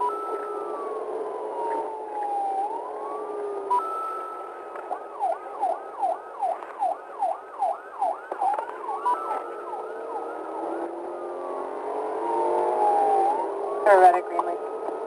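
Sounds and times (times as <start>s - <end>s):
police siren wailing and yelping: 0.0s - 15.0s
road noise: 0.0s - 15.0s.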